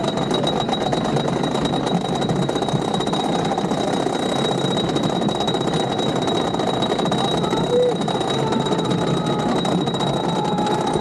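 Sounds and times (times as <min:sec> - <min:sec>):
lift chain rattling and clicking: 0:00.0 - 0:11.0
thin high whine: 0:00.0 - 0:11.0.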